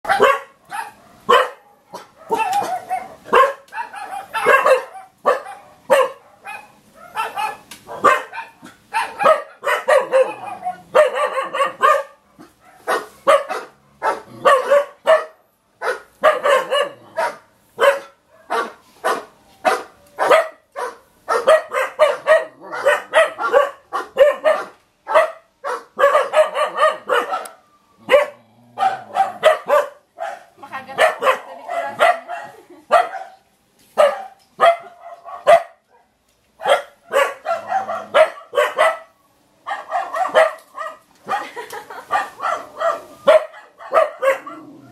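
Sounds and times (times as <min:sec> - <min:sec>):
dog barking: 0:00.0 - 0:33.4, 0:34.0 - 0:44.8.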